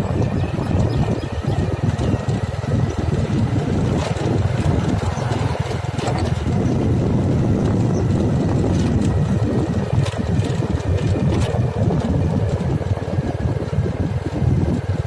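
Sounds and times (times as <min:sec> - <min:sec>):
heavy machine engine rumbling: 0:00.0 - 0:15.0.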